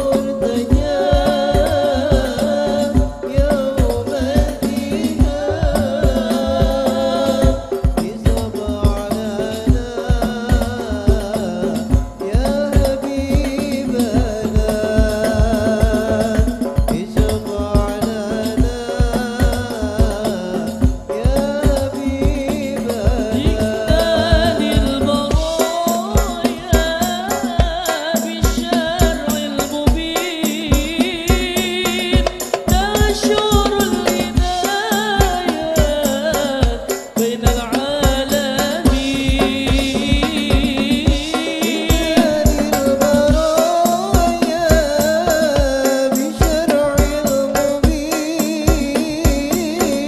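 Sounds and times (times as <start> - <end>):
deep bass drum: 0.0 - 50.0
hand-struck frame drums: 0.0 - 50.0
man singing through a microphone: 0.0 - 50.0.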